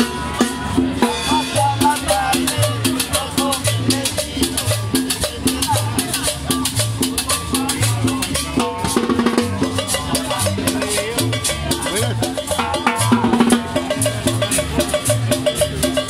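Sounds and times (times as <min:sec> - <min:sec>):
live latin dance band: 0:00.0 - 0:16.0.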